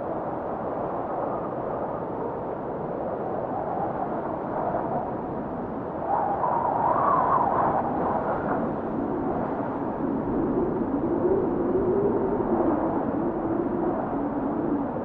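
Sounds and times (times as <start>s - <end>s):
blizzard wind moaning: 0.0s - 15.0s.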